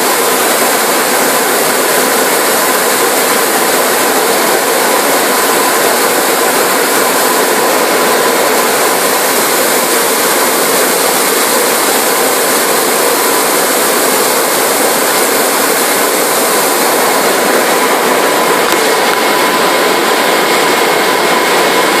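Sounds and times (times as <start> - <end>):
faint steady whine: 0.0 - 22.0
water spraying and machine noise: 0.0 - 22.0.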